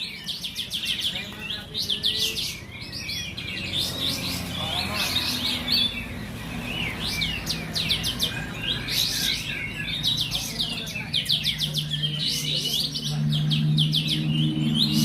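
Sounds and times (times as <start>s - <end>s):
songbirds chattering and whistling: 0.0s - 15.0s.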